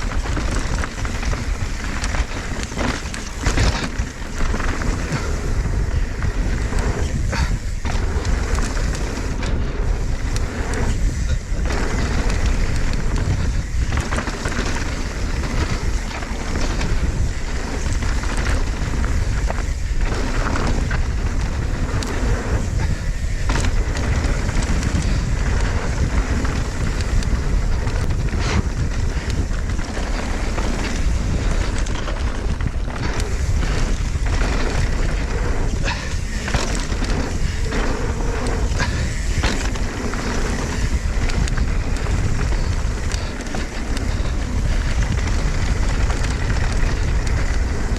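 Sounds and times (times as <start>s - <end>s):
bike knocks and rattles: 0.0s - 47.9s
tyres running over dirt and rocks: 0.0s - 47.9s
wind rushing over microphone: 0.0s - 47.9s.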